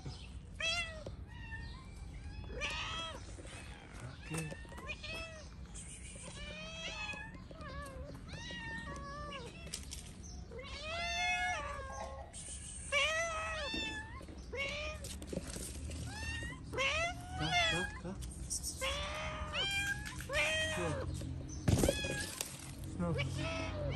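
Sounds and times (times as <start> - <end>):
cats meowing: 0.0 - 23.9.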